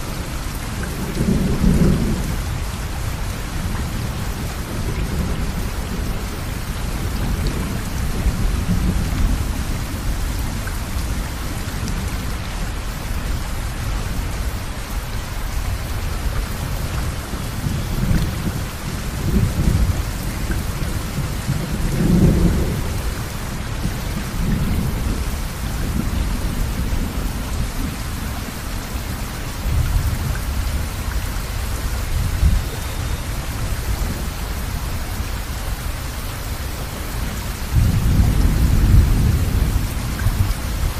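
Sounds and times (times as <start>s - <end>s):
steady rain: 0.0s - 40.9s
thunder rumbling: 0.1s - 12.5s, 15.7s - 40.9s.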